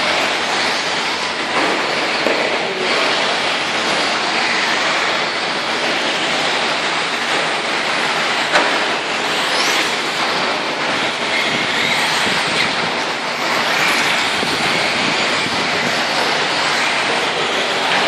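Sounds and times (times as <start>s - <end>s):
faint motor whines: 0.0s - 18.0s
tyre and drivetrain noise: 0.0s - 18.0s.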